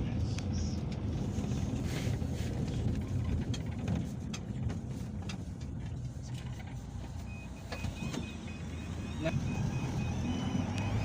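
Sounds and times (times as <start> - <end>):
minibus engine and road rumble: 0.0 - 11.0.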